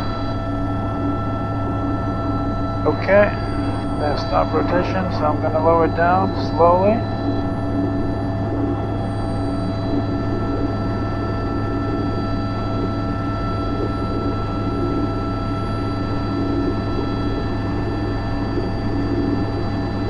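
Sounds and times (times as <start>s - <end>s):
helicopter rotor and engine drone: 0.0s - 20.0s
steady whining tones: 0.0s - 20.0s.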